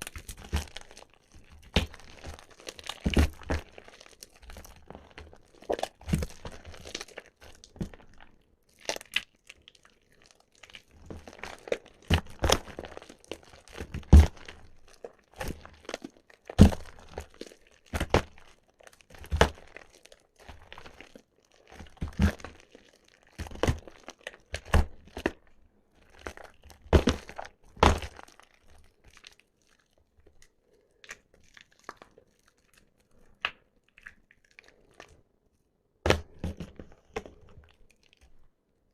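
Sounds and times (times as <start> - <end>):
wet soap crunching: 0.0 - 35.4, 36.0 - 38.9.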